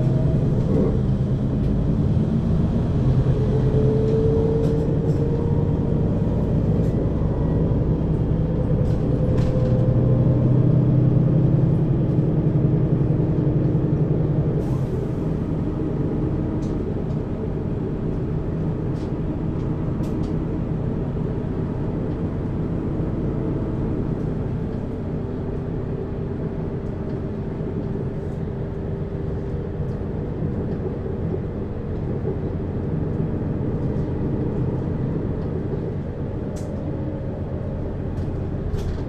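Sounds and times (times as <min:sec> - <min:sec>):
bus diesel engine running: 0:00.0 - 0:39.0
road rumble: 0:00.0 - 0:39.0.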